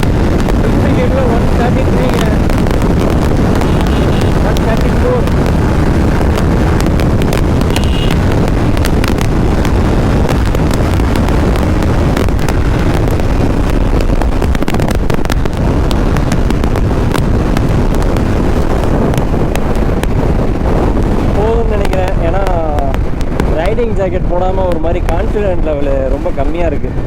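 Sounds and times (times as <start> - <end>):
motorcycle engine running: 0.0 - 23.7
wind buffeting microphone: 0.0 - 27.0.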